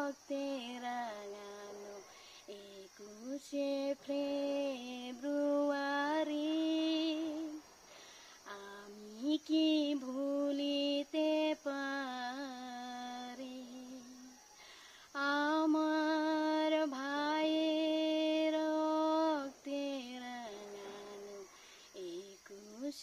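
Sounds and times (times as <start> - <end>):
woman singing unaccompanied: 0.0 - 23.0.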